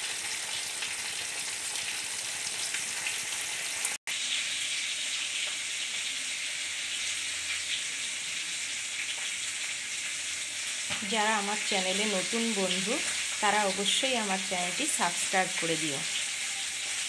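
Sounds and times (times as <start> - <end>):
prawns sizzling in oil: 0.0 - 17.0.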